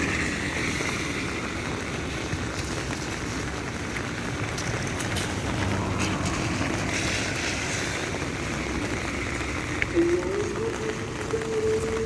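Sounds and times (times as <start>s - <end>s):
rain drop taps: 0.0s - 12.0s
steady rain hiss: 0.0s - 12.0s.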